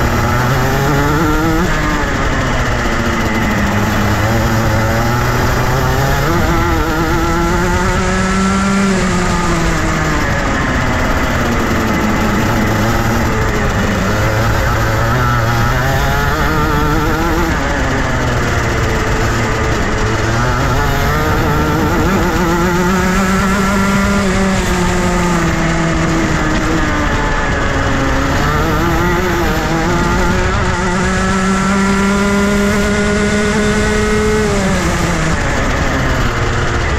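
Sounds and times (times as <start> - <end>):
kart engine revving: 0.0 - 36.9.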